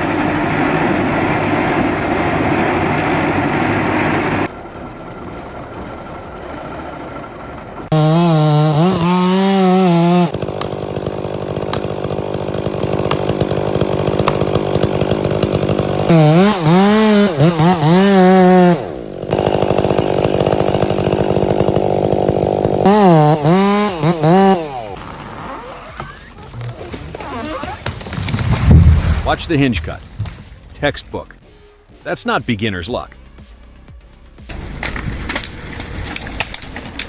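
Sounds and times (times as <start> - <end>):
chainsaw revving: 0.0 - 4.5, 5.7 - 30.5, 34.5 - 37.0.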